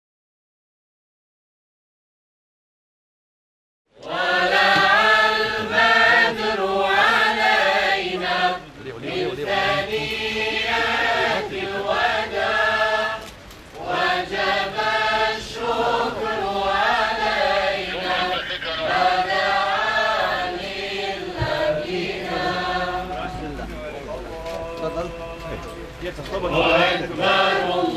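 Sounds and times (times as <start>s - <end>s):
choir chanting in unison: 4.0s - 25.7s, 26.4s - 27.9s.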